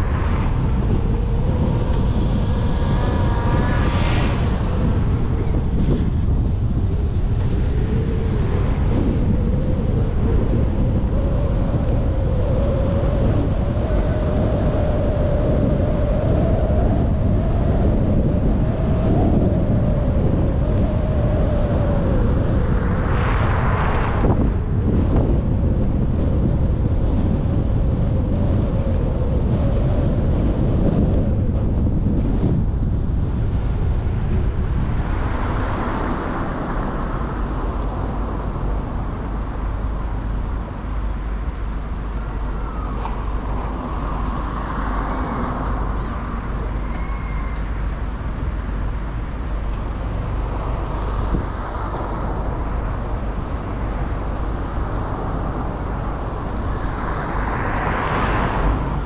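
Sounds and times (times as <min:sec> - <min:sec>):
car hum: 0:00.0 - 0:59.0
road and wind rumble: 0:00.0 - 0:59.0.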